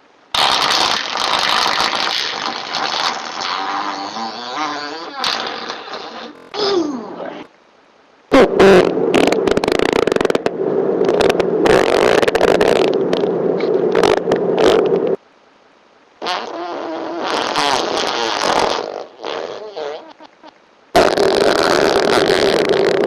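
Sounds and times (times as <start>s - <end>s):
long buzzing fart: 0.3s - 6.6s, 8.3s - 15.2s, 16.2s - 23.0s.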